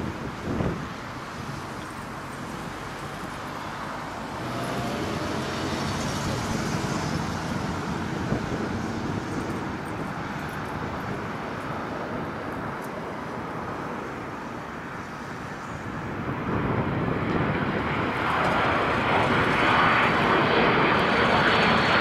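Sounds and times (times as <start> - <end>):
jet engines rumble and hiss: 0.0 - 22.0.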